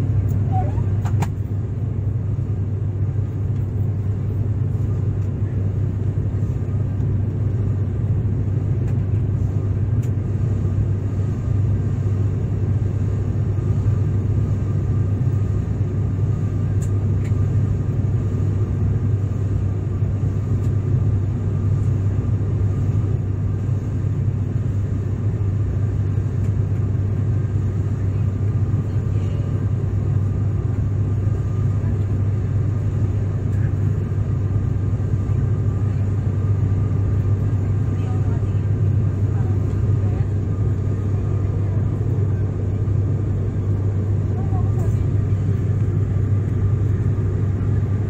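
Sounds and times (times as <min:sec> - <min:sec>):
airliner cabin engine drone: 0:00.0 - 0:48.0.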